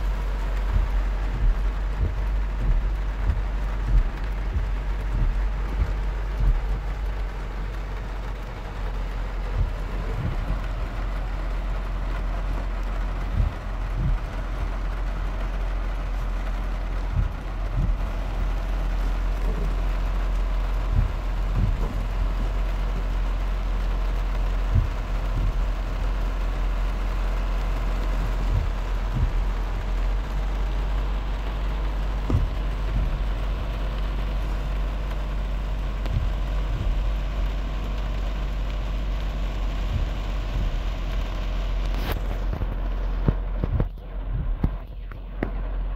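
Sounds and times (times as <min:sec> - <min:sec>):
floodwater flowing: 0:00.0 - 0:45.9
heavy rain on car: 0:00.0 - 0:45.9
low hum: 0:00.0 - 0:45.9
soft low thumps: 0:00.0 - 0:45.9.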